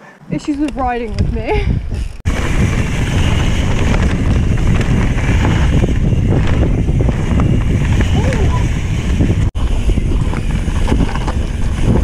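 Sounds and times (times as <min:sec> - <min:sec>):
wind buffeting microphone: 0:00.3 - 0:12.0
bike clicks and rattles: 0:00.4 - 0:12.0
bike tyres rolling on dirt: 0:00.4 - 0:12.0.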